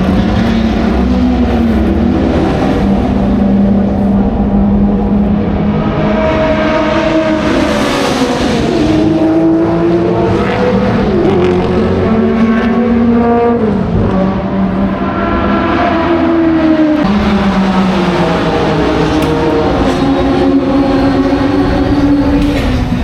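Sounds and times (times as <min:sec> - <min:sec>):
race car engines running loud: 0:00.0 - 0:23.0.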